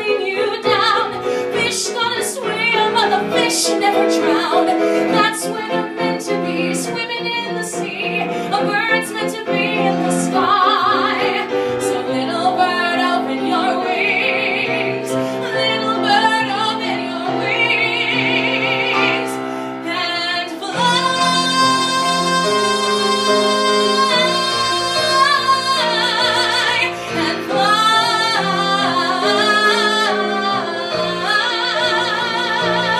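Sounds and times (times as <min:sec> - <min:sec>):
instrumental accompaniment: 0:00.0 - 0:32.9.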